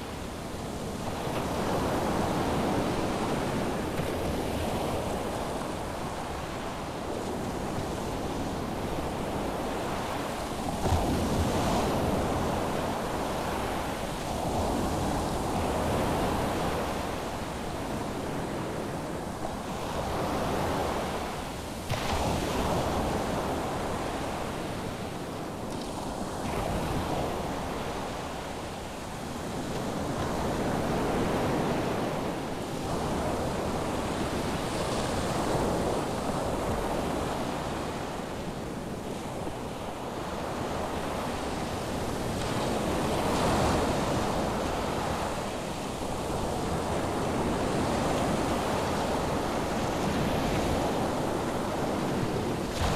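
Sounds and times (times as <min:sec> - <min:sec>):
waves breaking on beach: 0:00.0 - 0:52.9.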